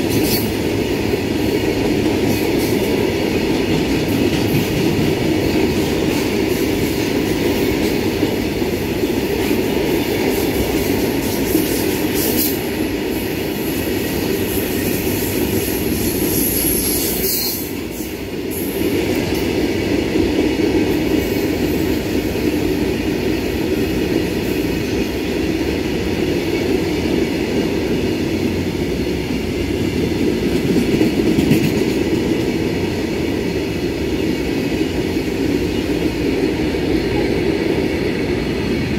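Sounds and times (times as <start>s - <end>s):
steel wheels rumbling on rails: 0.0s - 38.9s.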